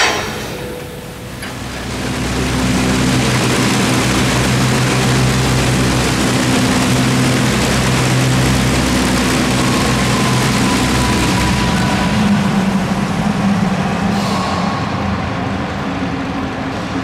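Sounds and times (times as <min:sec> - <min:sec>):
piston aircraft engines droning: 0:00.0 - 0:17.0.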